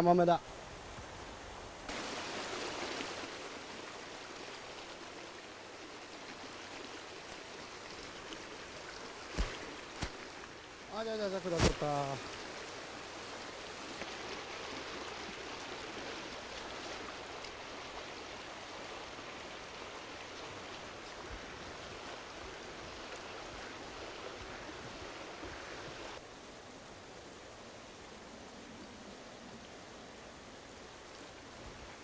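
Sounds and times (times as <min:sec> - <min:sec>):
stream running over rocks: 0:00.0 - 0:32.0.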